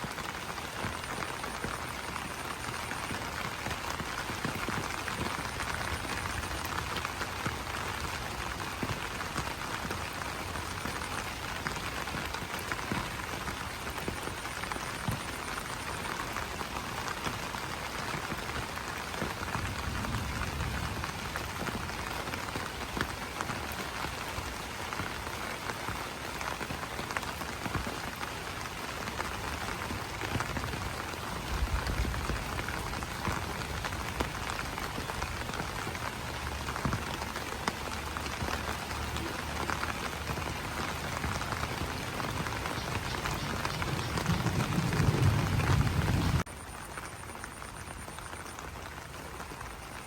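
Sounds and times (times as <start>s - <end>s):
rain on leaves: 0.0s - 50.0s.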